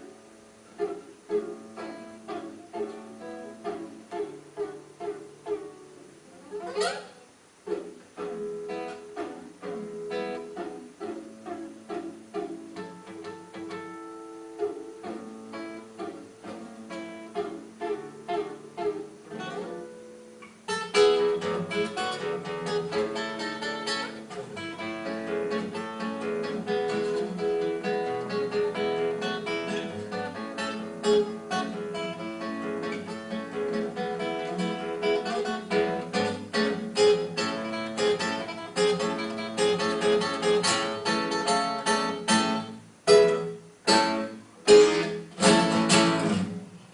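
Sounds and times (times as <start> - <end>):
acoustic guitar music: 0.0 - 46.9.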